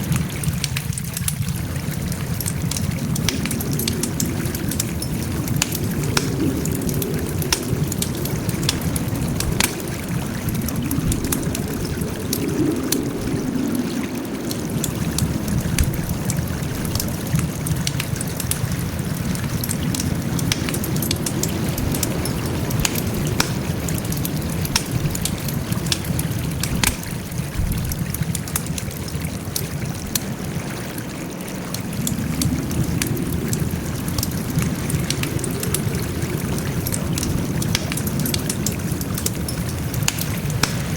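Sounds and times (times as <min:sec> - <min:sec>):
campfire crackles and pops: 0:00.0 - 0:40.9
flames rumbling: 0:00.0 - 0:40.9.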